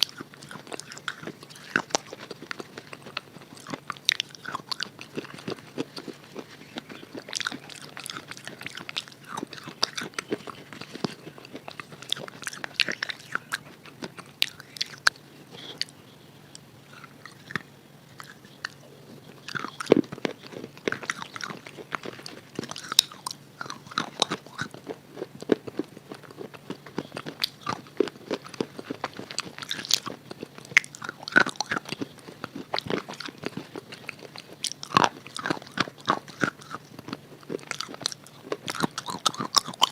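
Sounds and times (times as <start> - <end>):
crunching and chewing chalk: 0.0 - 39.9.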